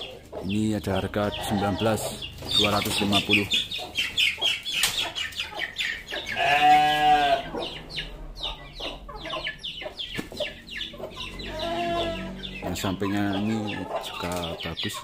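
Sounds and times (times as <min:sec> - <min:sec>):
chickens clucking: 0:00.0 - 0:15.0
drawn-out farm animal call: 0:00.0 - 0:15.0.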